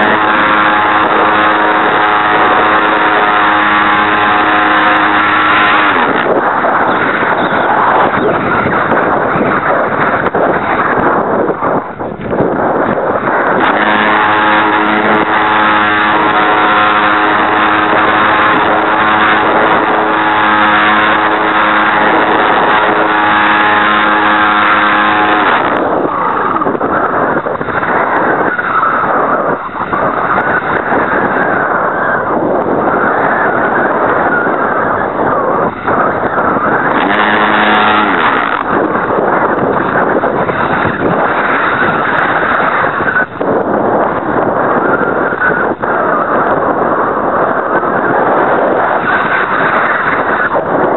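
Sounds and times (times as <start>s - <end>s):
electric motor and propeller: 0.0s - 50.9s
wind rush on microphone: 0.0s - 50.9s.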